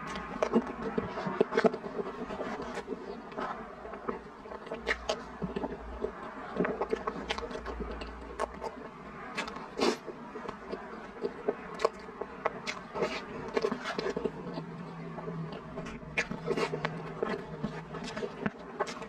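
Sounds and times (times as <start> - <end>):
wet chewing and smacking: 0.0 - 19.0.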